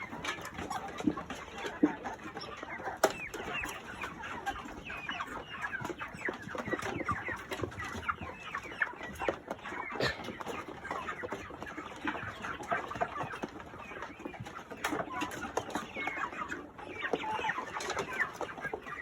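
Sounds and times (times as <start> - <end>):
chicks peeping and clucking: 0.0 - 19.0.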